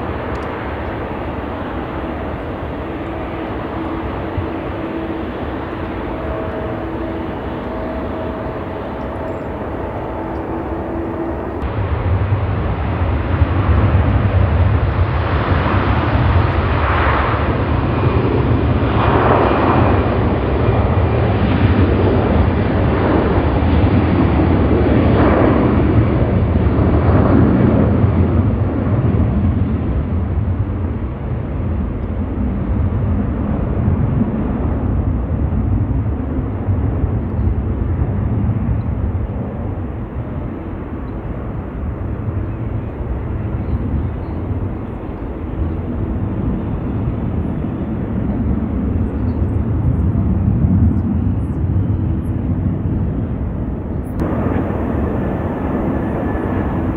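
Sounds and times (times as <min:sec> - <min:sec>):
jet taking off: 0:00.0 - 0:56.9.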